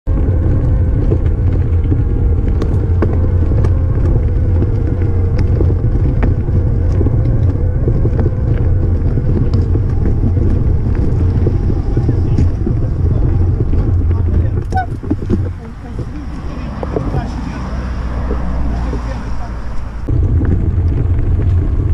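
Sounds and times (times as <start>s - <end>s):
wind rumble on microphone: 0.0s - 21.9s
clicks and rattles from bike: 0.1s - 21.9s
tyres on loose stones: 0.1s - 21.9s.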